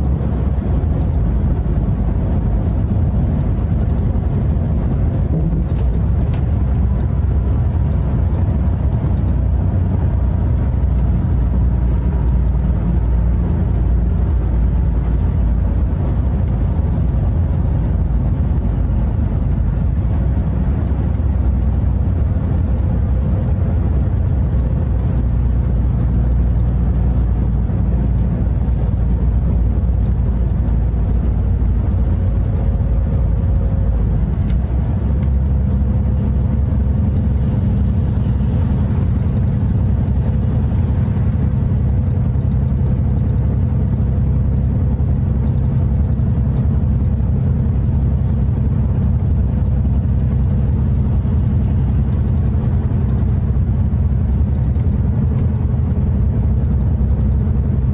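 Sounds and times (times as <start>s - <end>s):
road noise: 0.0s - 57.9s
truck engine drone inside cab: 0.0s - 57.9s.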